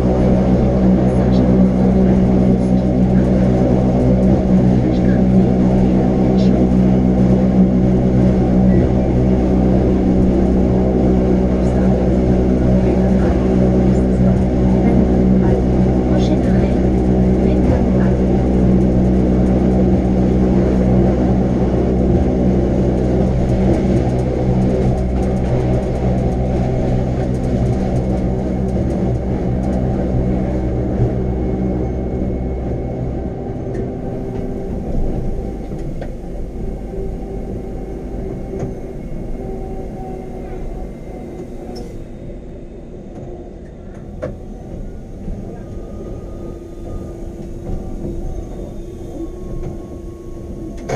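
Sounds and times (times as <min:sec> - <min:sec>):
electric train motor hum: 0:00.0 - 0:50.9.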